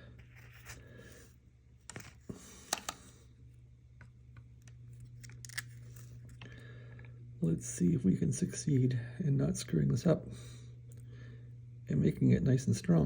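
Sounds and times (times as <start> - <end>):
soldering gun humming: 1.8 - 13.0.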